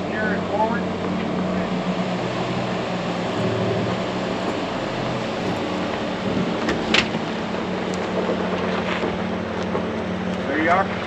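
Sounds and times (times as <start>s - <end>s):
low engine hum: 0.0s - 11.0s
tyres rumbling on rock: 0.0s - 11.0s.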